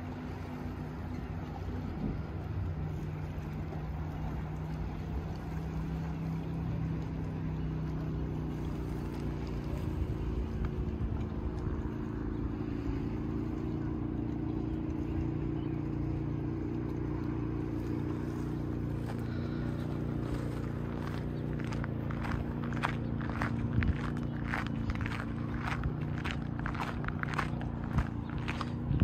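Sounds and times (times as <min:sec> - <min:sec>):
motor engine running: 0:00.0 - 0:29.0.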